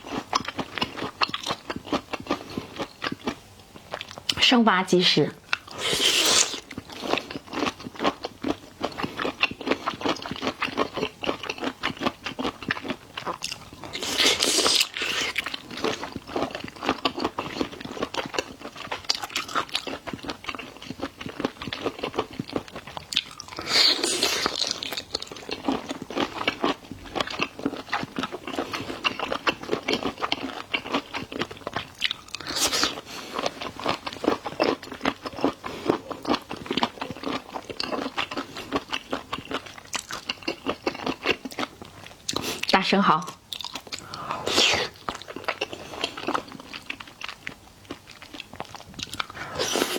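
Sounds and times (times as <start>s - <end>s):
wet chewing with crunchy bites: 0.0s - 4.4s, 5.4s - 49.9s.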